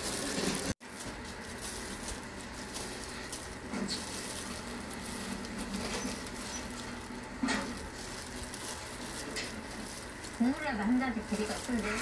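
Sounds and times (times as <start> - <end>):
plastic gloves rustling: 0.0 - 12.0
steady low hum: 0.8 - 12.0.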